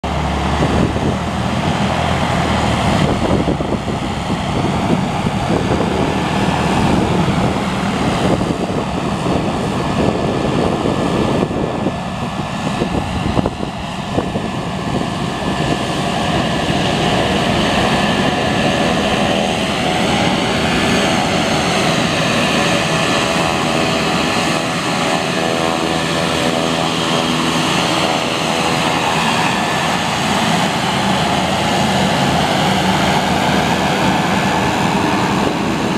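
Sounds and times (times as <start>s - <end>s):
turboprop engines droning: 0.0s - 35.9s
wind rumbling on microphone: 0.0s - 35.9s.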